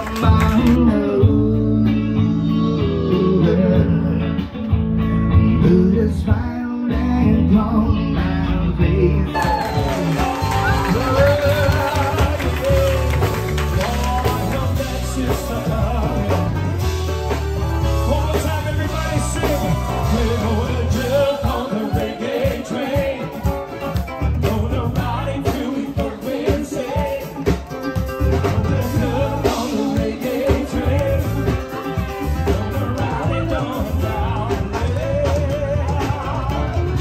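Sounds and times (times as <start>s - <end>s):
upbeat song with singing: 0.0s - 37.0s.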